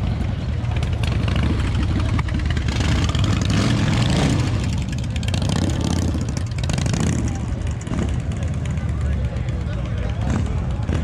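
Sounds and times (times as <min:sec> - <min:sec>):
motorcycle engine at low revs: 0:00.0 - 0:09.0.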